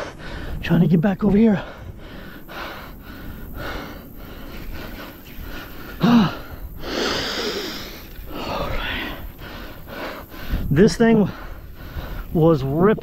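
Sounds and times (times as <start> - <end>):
man panting: 0.0 - 0.6, 1.5 - 12.4.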